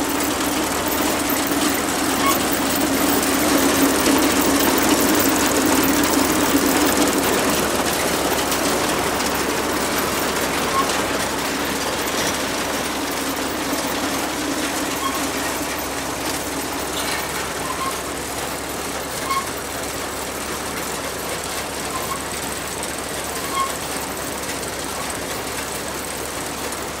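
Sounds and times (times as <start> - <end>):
harvester mechanical clatter: 0.0 - 27.0.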